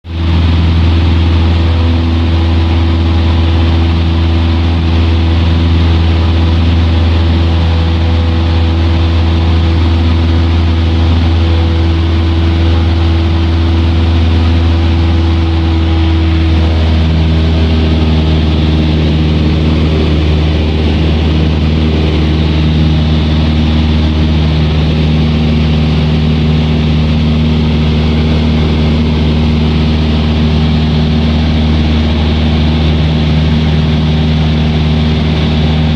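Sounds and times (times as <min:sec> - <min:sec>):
aircraft engine droning: 0:00.0 - 0:35.9.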